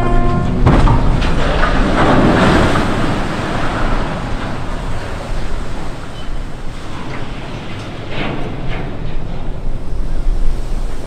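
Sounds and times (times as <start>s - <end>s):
surging wave: 0.0s - 11.0s
ship hull splashing into water: 0.2s - 11.0s.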